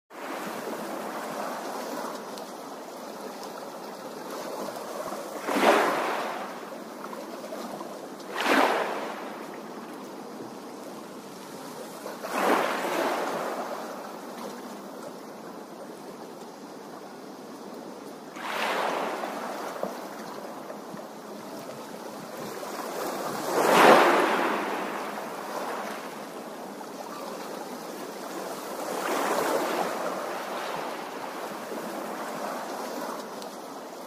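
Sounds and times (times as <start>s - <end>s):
small waves washing on stony shore: 0.1s - 34.0s.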